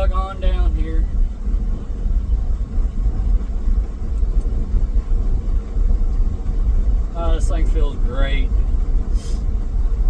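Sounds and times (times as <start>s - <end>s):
road rumble: 0.0s - 10.0s
truck engine chugging: 0.0s - 10.0s.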